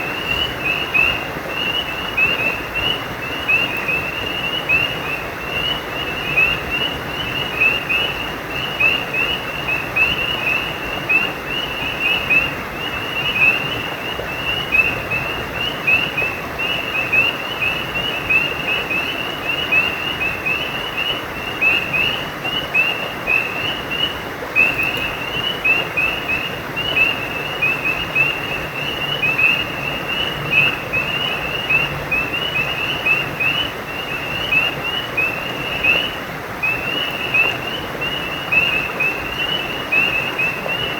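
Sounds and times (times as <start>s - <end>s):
frogs chirping: 0.0s - 40.9s
stream rushing: 0.0s - 40.9s.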